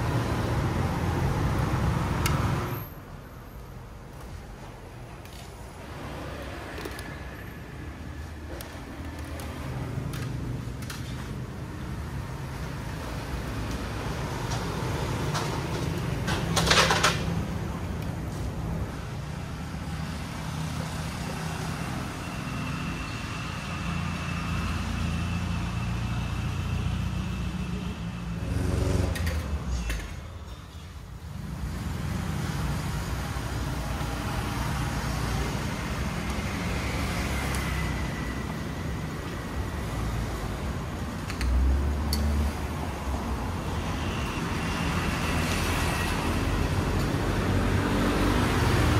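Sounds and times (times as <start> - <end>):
road traffic rumbling: 0.0 - 48.9.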